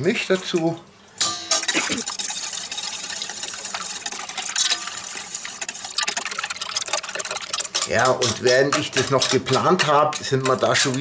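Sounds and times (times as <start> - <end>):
whisk beating in metal bowl: 2.0 - 11.0.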